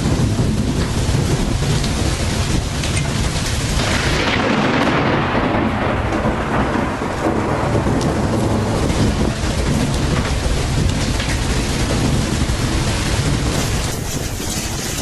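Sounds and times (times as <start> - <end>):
heavy rain: 0.0 - 15.0
rolling thunder rumble: 0.0 - 15.0.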